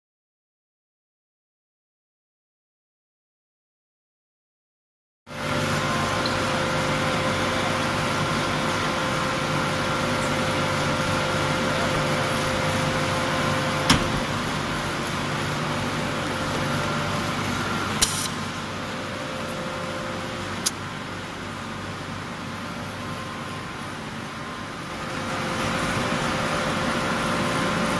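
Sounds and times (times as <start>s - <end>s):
machine drone: 5.3s - 27.9s.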